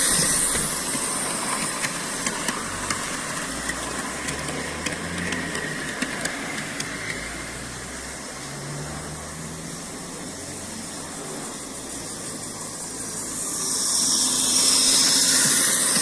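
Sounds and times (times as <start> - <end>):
light clicks of train wheels: 0.0 - 16.0
model train motor hum: 0.0 - 16.0.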